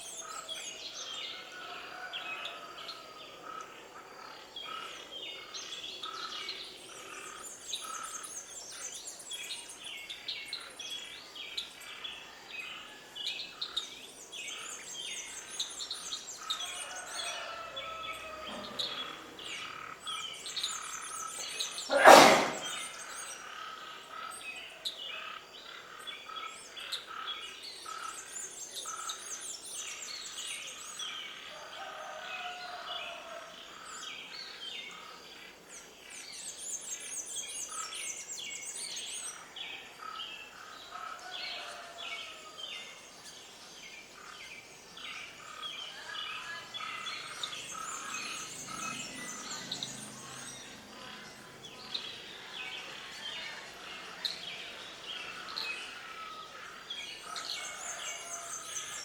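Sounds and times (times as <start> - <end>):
birds chirping and singing: 0.0 - 32.8, 33.8 - 59.0.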